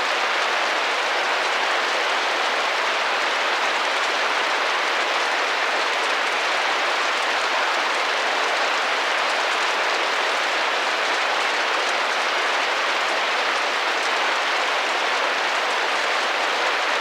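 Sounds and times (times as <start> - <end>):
rain pattering on window: 0.1 - 17.0.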